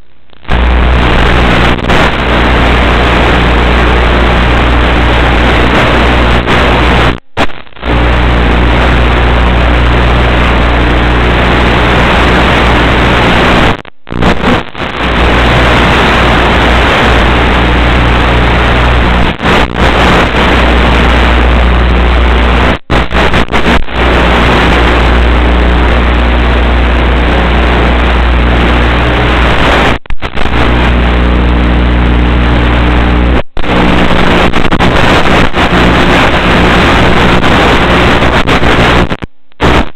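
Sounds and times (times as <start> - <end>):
steady rushing noise: 0.1 - 39.9.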